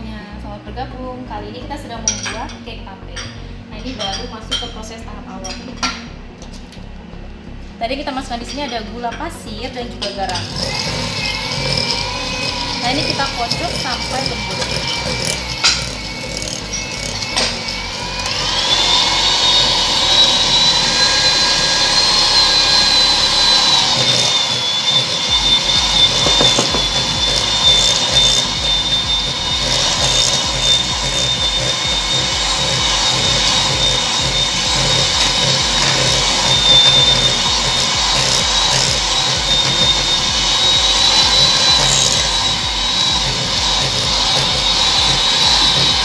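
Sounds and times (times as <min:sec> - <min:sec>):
electric hand mixer whining: 0:01.6 - 0:46.0.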